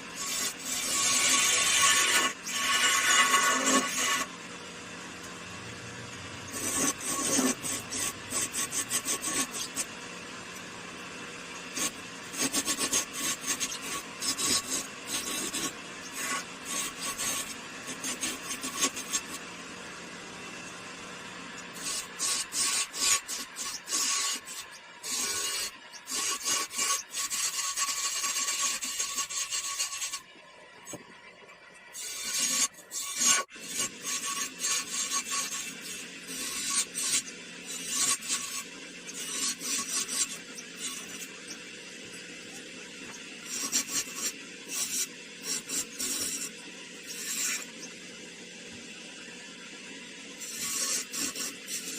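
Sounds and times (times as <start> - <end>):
wood being rasped by hand: 0.0 - 4.4, 6.5 - 10.7, 11.4 - 19.6, 21.6 - 30.2, 32.0 - 48.0, 50.4 - 51.9.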